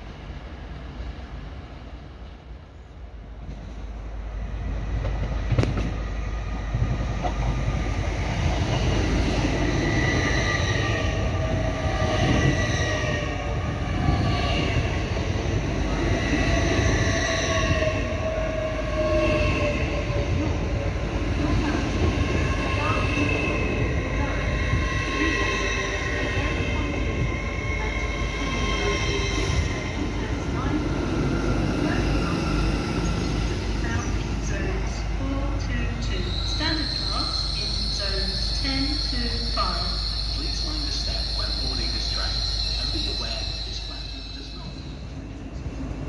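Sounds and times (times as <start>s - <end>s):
train wheels rumbling on rail: 0.0s - 46.0s
train whine: 0.0s - 46.0s.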